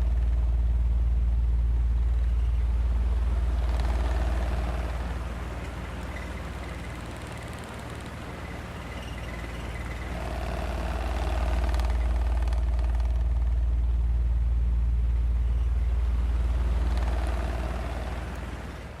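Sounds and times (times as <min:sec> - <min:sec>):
faint rattle: 0:00.0 - 0:19.0
ventilation shaft humming: 0:00.0 - 0:19.0.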